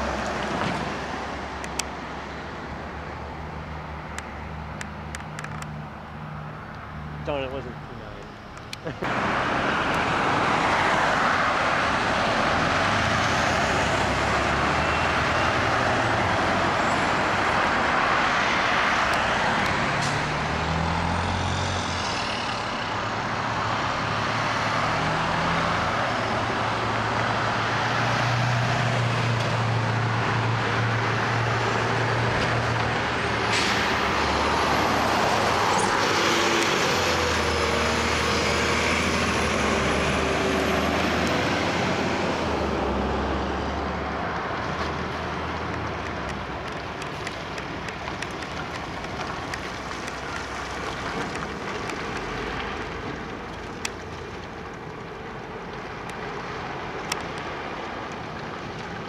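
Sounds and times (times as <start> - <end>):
garbage truck diesel engines: 0.0 - 59.0
road traffic noise: 0.0 - 59.0.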